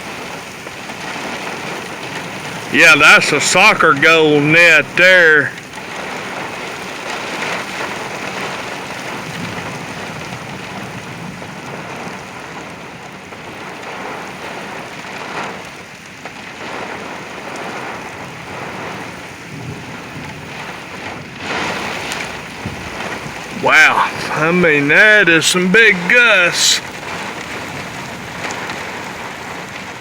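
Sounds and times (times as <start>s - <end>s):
heavy rain: 0.1s - 30.0s.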